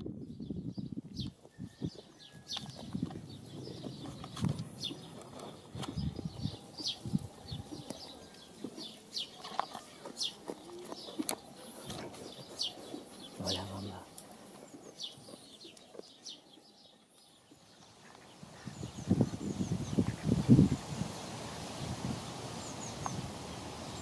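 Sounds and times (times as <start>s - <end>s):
small birds chirping: 0.1s - 24.0s
sheep munching grass: 1.2s - 24.0s.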